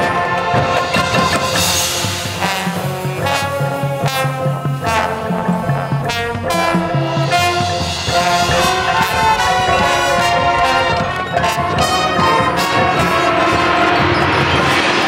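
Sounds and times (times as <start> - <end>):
brass melody: 0.0 - 15.0
marching drums: 0.0 - 15.0.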